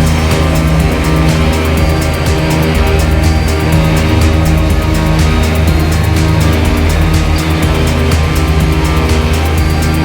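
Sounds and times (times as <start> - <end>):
background music with fast beat: 0.0 - 10.0.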